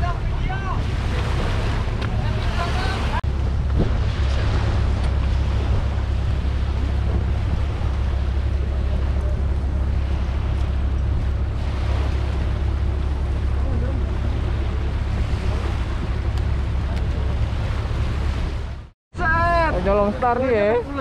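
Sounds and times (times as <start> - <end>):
small waves washing on shore: 0.0 - 21.0
wind rumble on microphone: 0.0 - 21.0.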